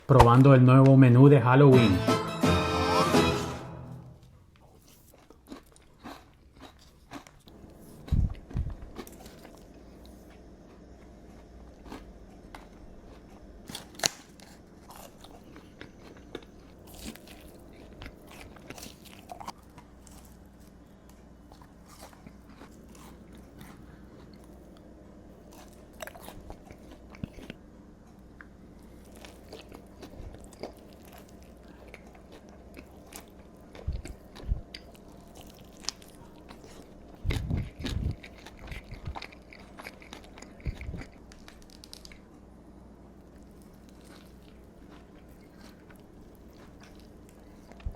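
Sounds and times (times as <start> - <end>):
biting and crunching food: 4.6 - 27.6, 28.3 - 42.5, 43.2 - 47.9.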